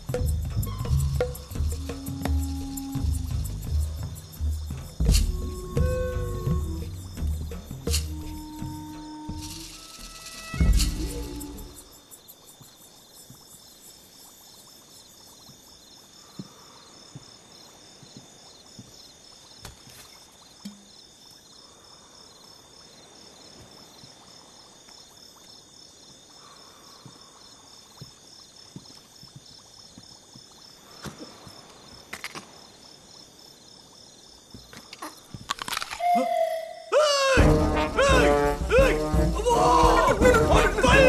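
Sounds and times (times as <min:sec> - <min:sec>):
crickets chirping: 0:00.0 - 0:41.0.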